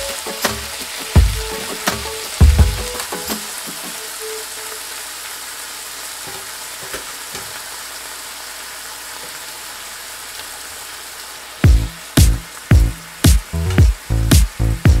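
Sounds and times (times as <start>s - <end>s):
beef sizzling in hot oil: 0.0s - 15.0s.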